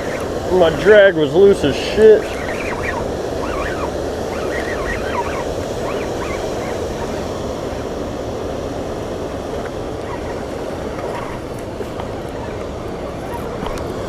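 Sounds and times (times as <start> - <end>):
birds calling: 0.0 - 14.0
water rushing through spillway: 0.0 - 14.0.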